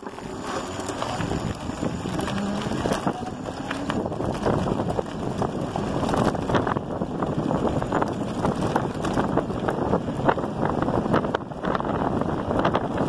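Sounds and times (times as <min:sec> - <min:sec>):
bike tyres crunching on gravel: 0:00.0 - 0:13.0
wind on microphone: 0:00.2 - 0:13.0.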